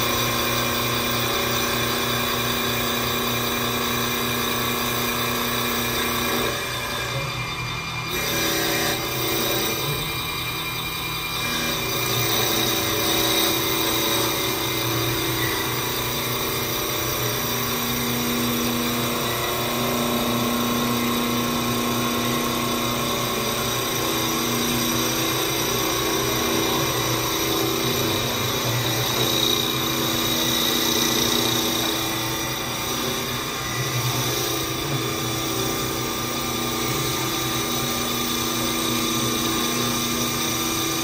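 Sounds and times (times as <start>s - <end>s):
lathe machine whine: 0.0s - 41.0s.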